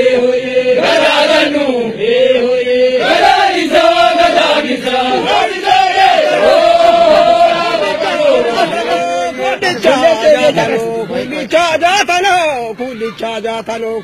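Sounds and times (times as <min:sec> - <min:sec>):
men chanting song: 0:00.0 - 0:11.6.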